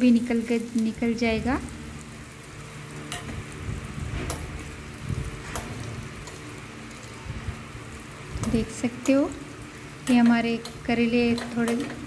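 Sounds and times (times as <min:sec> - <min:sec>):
vegetables frying in oil: 0:00.0 - 0:12.0.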